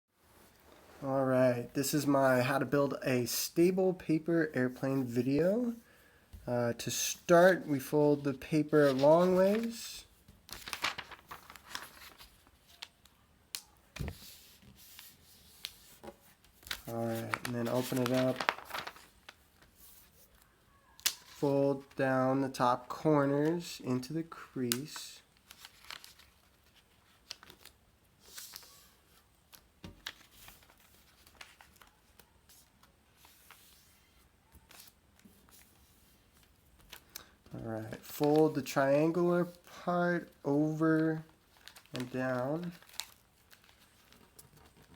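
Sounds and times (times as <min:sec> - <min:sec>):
paper rustling and crackling: 0:07.0 - 0:44.9.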